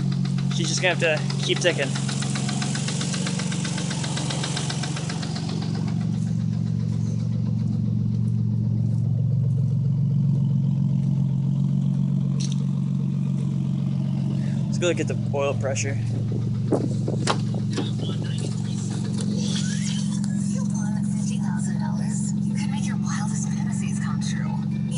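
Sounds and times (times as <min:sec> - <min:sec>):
car engine idling: 0:00.0 - 0:24.9
fast loud valvetrain ticking: 0:00.0 - 0:24.9.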